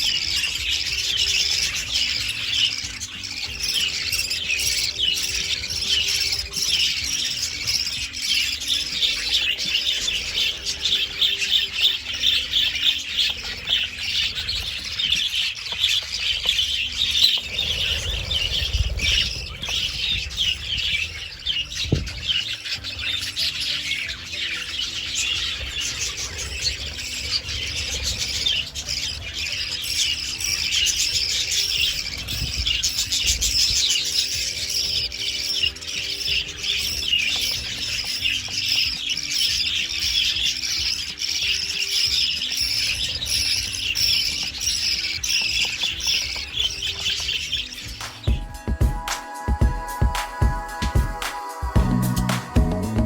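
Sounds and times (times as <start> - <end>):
budgerigars chattering: 0.0 - 50.1.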